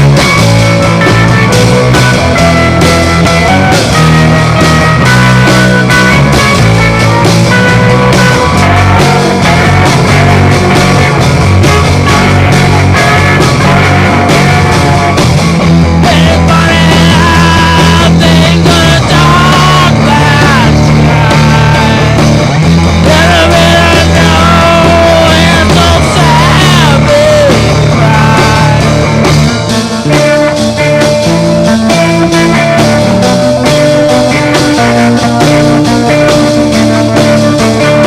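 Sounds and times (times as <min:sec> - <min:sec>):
steady bass line: 0:00.0 - 0:38.0
wavering lead guitar line: 0:00.0 - 0:38.0.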